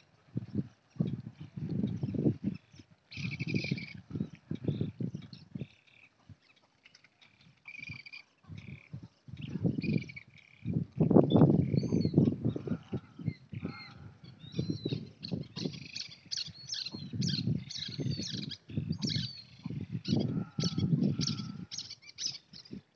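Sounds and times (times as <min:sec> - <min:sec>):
birds chirping: 0:00.4 - 0:22.9.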